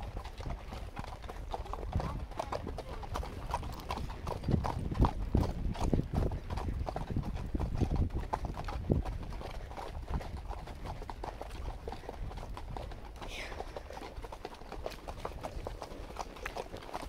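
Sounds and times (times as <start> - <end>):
horse hooves clopping on dirt: 0.0 - 17.0.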